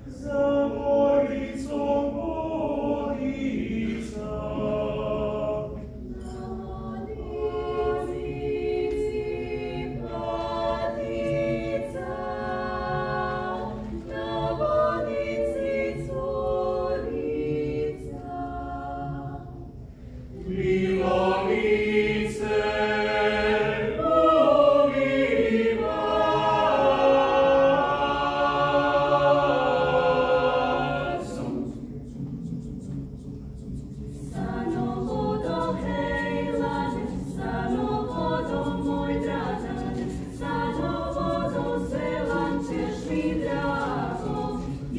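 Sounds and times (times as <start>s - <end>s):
mixed choir singing a cappella: 0.0s - 44.9s.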